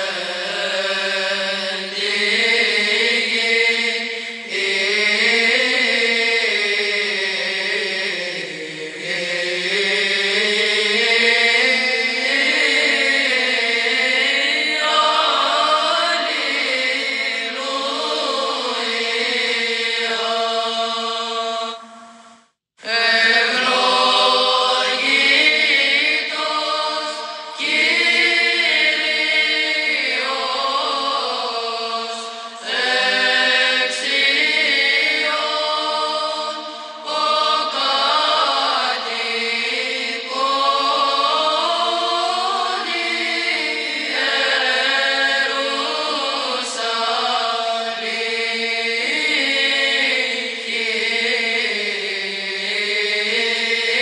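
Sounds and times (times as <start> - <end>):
sung chant melody: 0.0 - 54.0.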